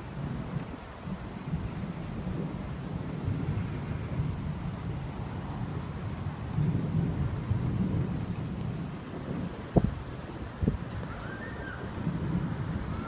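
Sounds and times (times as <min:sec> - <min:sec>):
low rumble of thunder: 0:00.0 - 0:13.0
steady rain falling: 0:00.0 - 0:13.0.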